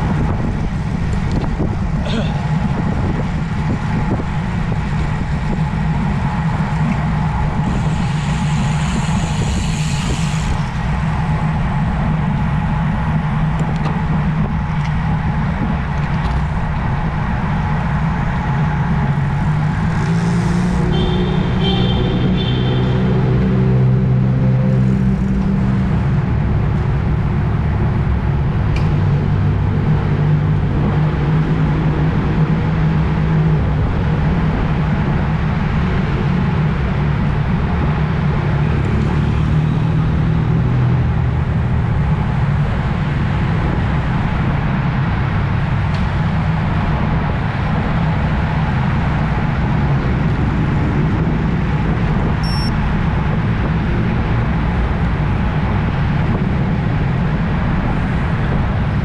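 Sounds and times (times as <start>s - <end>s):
road rumble: 0.0s - 59.0s
wind rush on microphone: 0.0s - 59.0s.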